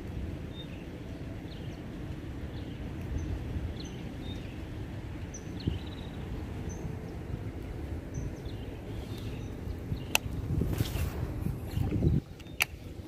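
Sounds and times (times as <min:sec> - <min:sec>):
wind rumbling on microphone: 0:00.0 - 0:13.0
birds chirping: 0:00.4 - 0:13.0.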